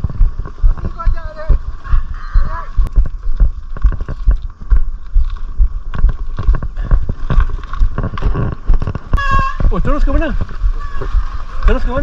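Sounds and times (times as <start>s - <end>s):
bike rattling over rough trail: 0.0s - 12.0s.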